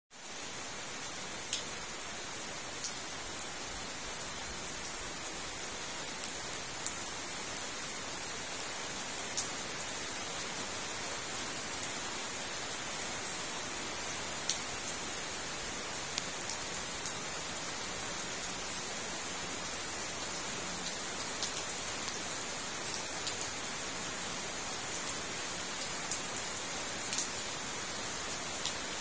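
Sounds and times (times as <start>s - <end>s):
rain falling on a pond: 0.1s - 29.0s.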